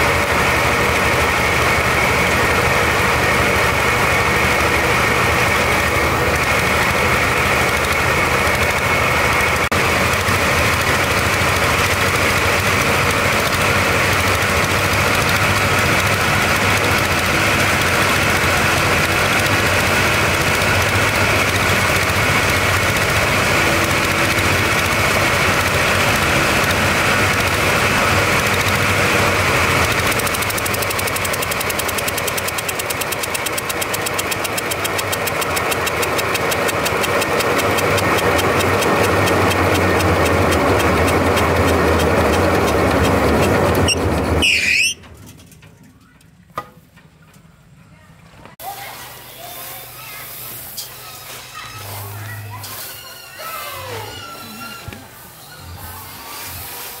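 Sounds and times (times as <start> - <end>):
engine-powered thresher running: 0.0 - 47.8, 48.4 - 57.0.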